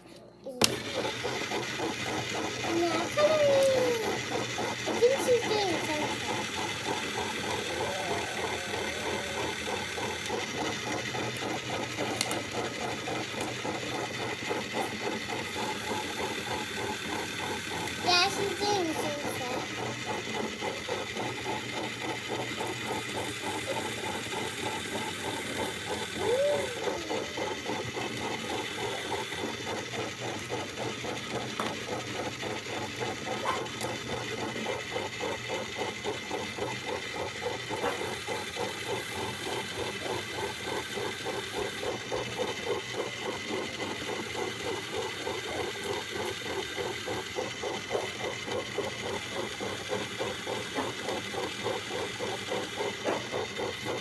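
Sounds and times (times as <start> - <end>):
small motor with pulsing rattle: 0.0 - 54.0.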